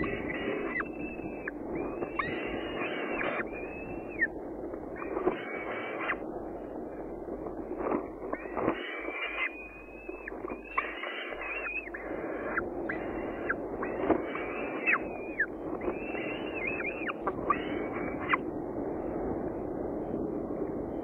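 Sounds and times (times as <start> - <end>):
falcon chick calling: 0.0 - 6.3, 7.8 - 18.4
low wind rumble: 0.0 - 21.0.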